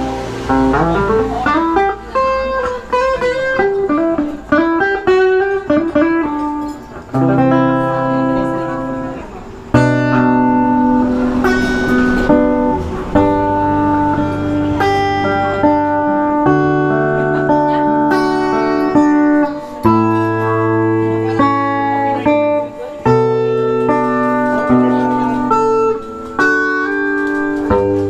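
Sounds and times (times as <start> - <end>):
guitar strummed chords: 0.0 - 28.0.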